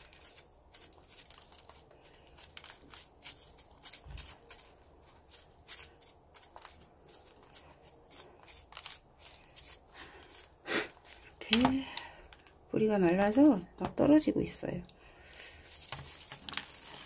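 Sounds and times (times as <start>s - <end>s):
soil crumbs falling: 0.0s - 14.1s, 15.2s - 17.0s.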